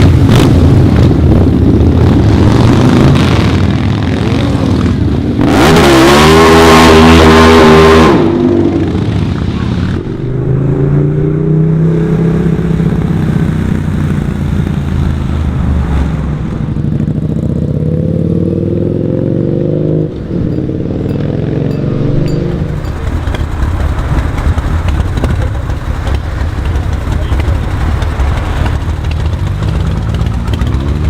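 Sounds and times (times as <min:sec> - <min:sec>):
motorcycle engine revving: 0:00.0 - 0:31.0
rough engine sound: 0:00.0 - 0:31.0.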